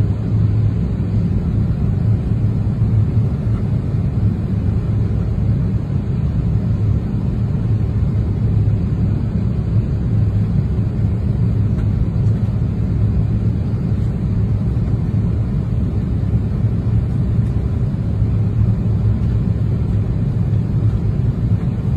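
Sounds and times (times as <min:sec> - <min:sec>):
airflow over fuselage: 0:00.0 - 0:21.9
jet engines rumbling: 0:00.0 - 0:21.9.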